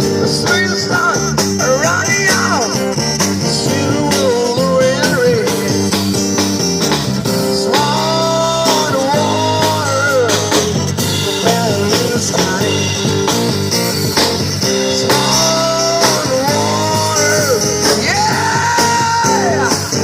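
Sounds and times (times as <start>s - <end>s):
blues-rock guitar band playing: 0.0s - 20.0s.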